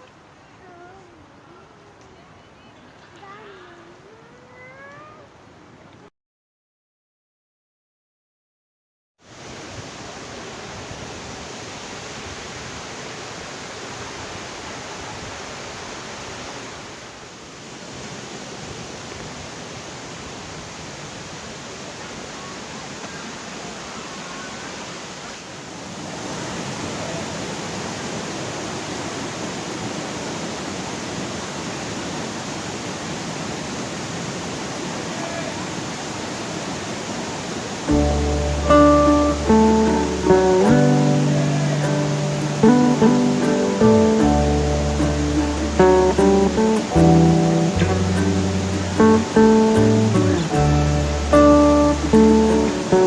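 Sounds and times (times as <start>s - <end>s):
waterfall rushing roar: 9.3s - 53.0s.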